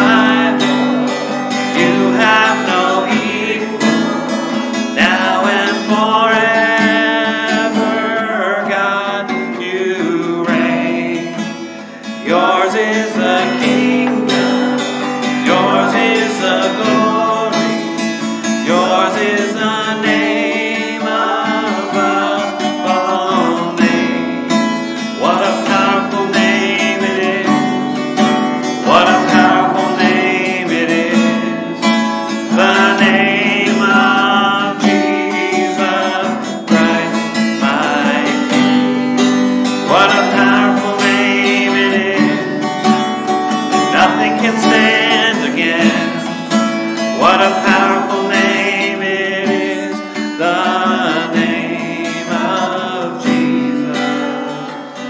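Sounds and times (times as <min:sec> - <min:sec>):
man singing: 0:00.0 - 0:39.1, 0:39.8 - 0:55.0
acoustic guitar strumming: 0:00.0 - 0:55.0.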